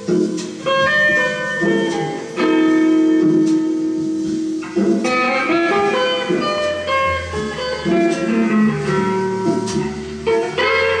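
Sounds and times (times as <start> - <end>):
guitar music from vinyl record: 0.0 - 11.0.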